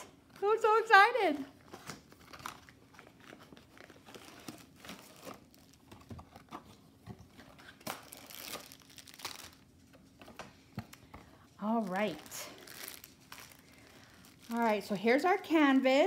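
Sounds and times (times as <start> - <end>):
plastic packaging crinkling: 0.3 - 16.0.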